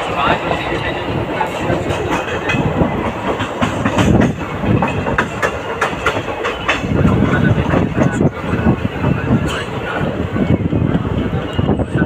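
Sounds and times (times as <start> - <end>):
train wheels clicking over rail joints: 0.0 - 11.8
steady train rumble: 0.0 - 12.0.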